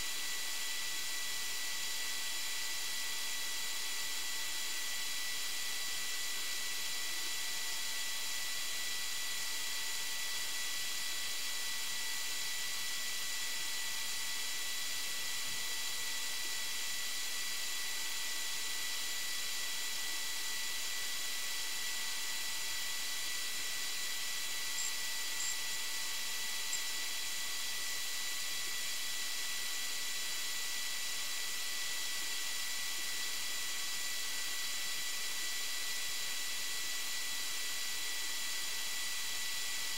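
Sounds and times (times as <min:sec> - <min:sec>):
faint high whine: 0:00.0 - 0:39.9.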